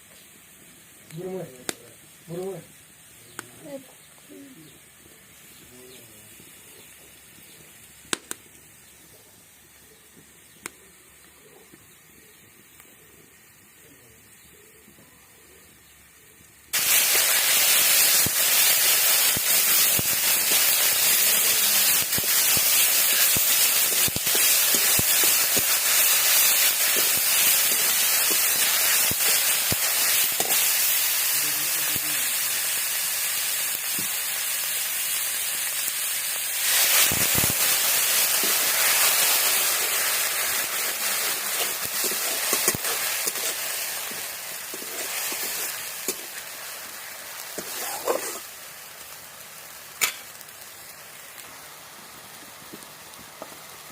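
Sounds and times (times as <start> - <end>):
food sizzling in hot oil: 0.0 - 14.5, 16.4 - 53.9.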